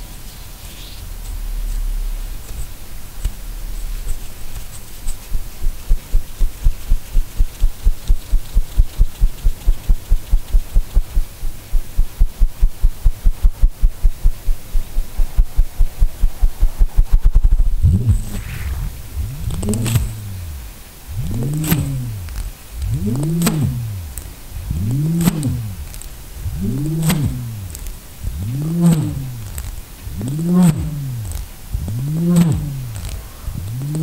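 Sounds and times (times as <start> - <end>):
whirligig toy throbbing whir: 0.0 - 34.0.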